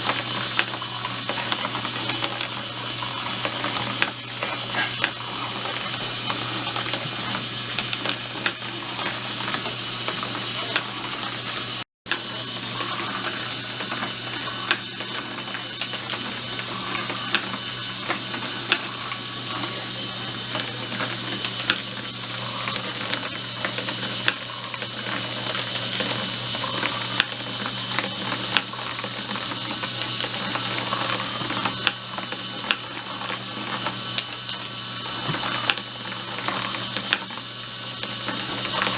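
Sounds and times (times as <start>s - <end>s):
marbles clattering on track: 0.0s - 37.4s.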